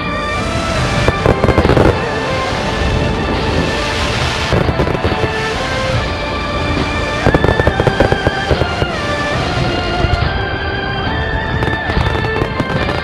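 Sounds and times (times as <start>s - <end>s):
background music: 0.0s - 13.0s
fireworks bangs and crackles: 0.4s - 13.0s.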